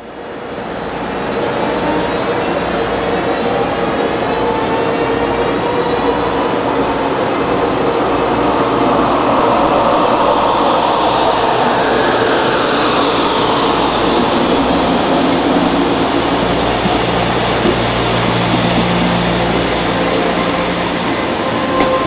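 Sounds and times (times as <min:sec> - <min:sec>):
electric train rolling rumble and hum: 0:00.0 - 0:22.0.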